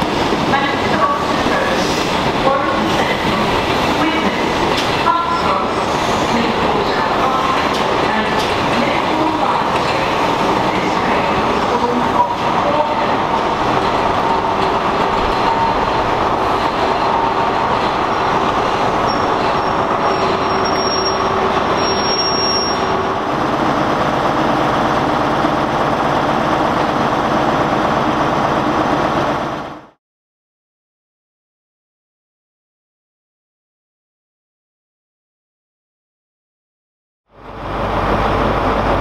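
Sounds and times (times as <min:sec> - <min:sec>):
diesel locomotive drone: 0:00.0 - 0:30.0, 0:37.3 - 0:39.0
train coaches rumbling on rails: 0:00.0 - 0:30.0, 0:37.3 - 0:39.0.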